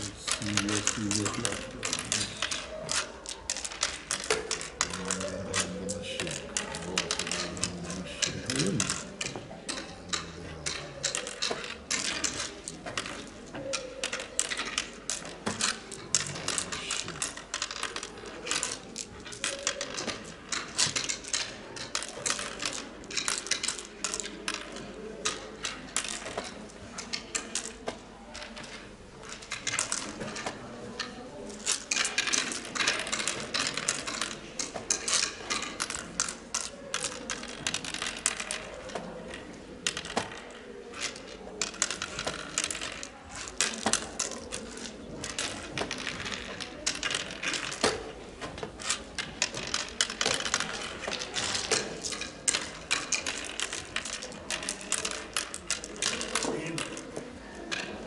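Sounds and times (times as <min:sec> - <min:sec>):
seeds clicking on wooden board: 0:00.0 - 0:58.0.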